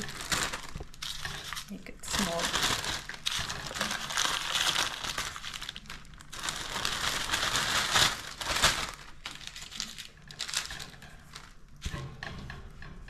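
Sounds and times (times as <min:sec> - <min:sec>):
crisp pastry cracking: 0:00.0 - 0:11.7
plastic bag crinkling: 0:00.0 - 0:11.8.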